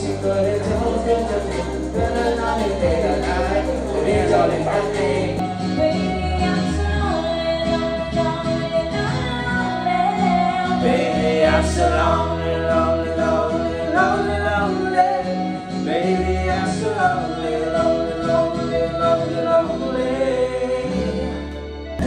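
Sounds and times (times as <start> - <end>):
backing track with bass line: 0.0 - 22.0
man and woman singing karaoke: 0.0 - 22.0
person singing along: 0.0 - 22.0.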